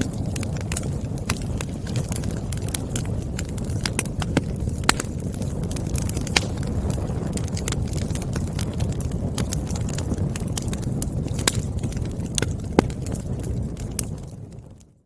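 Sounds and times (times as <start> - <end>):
firewood popping and snapping: 0.0 - 15.0
flames rushing: 0.0 - 15.0.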